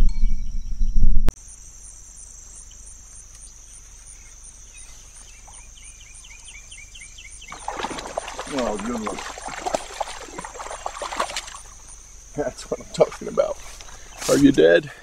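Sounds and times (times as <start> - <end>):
insect chorus: 1.4 - 15.0.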